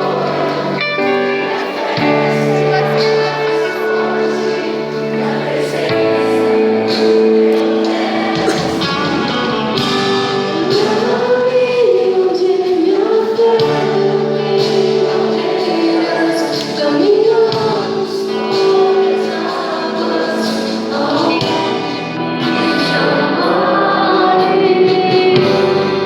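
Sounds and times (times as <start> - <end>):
held keyboard chords: 0.0 - 26.0
person singing: 0.0 - 26.0
worship band playing: 0.0 - 26.0.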